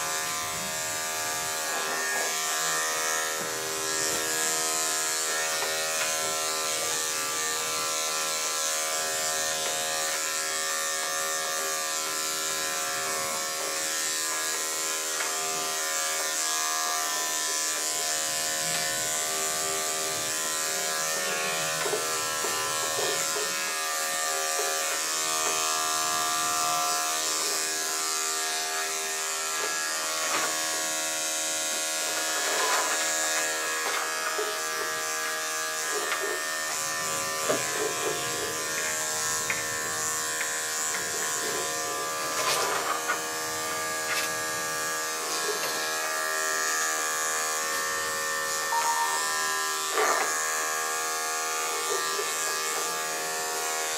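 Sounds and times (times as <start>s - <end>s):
electric clippers buzzing: 0.0s - 53.9s.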